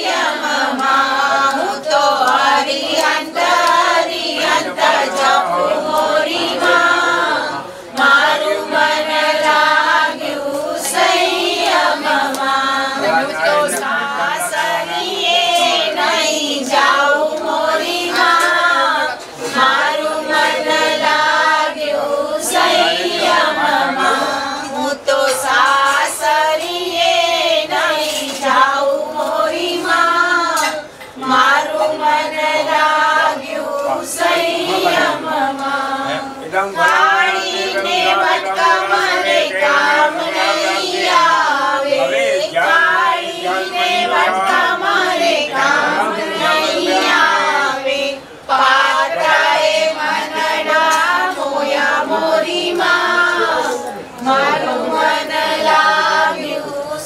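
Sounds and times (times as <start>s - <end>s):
group singing devotional song: 0.0s - 57.0s.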